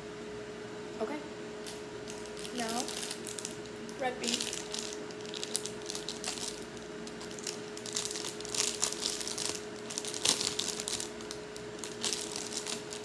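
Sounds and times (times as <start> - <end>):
range hood fan humming: 0.0 - 13.0
plastic wrapper crinkling: 1.6 - 13.0.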